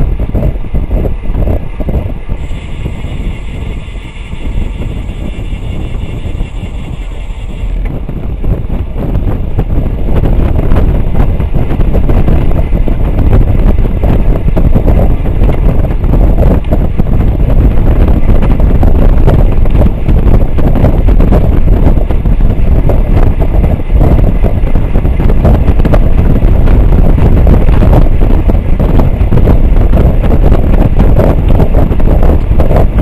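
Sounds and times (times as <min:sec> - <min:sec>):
wind buffeting microphone: 0:00.0 - 0:33.0
bicycle freewheel buzzing: 0:00.3 - 0:33.0.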